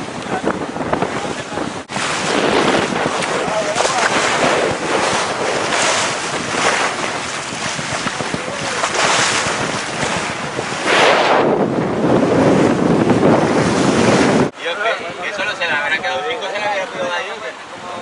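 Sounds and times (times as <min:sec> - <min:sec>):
water rushing along hull: 0:00.0 - 0:18.0
wind buffeting microphone: 0:00.0 - 0:18.0.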